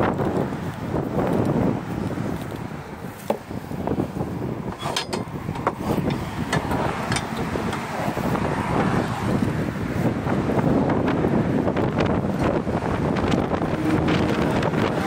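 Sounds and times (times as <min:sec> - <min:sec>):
motorway traffic rushing: 0:00.0 - 0:15.0
wind buffeting microphone: 0:00.0 - 0:15.0.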